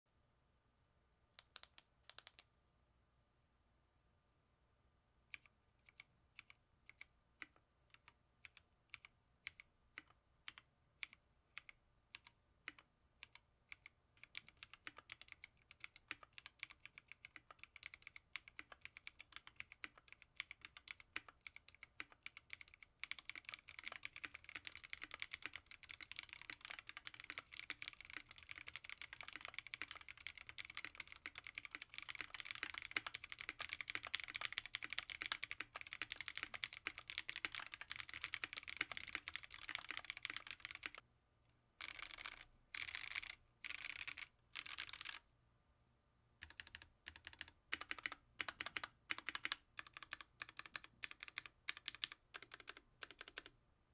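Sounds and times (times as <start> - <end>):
mechanical keyboard typing: 1.4 - 2.4, 5.3 - 41.0, 41.8 - 45.2, 46.4 - 53.5.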